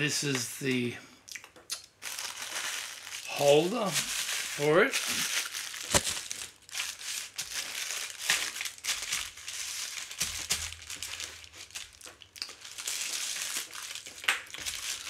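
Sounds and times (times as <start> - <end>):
plastic satchel crinkling: 2.0 - 15.0.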